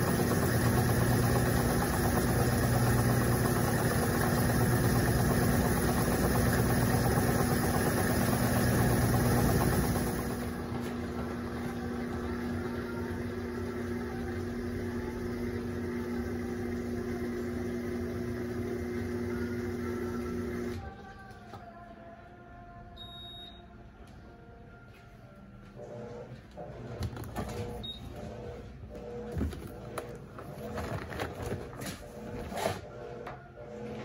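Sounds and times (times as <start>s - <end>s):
washing machine spinning: 0.0s - 20.8s, 25.8s - 34.0s.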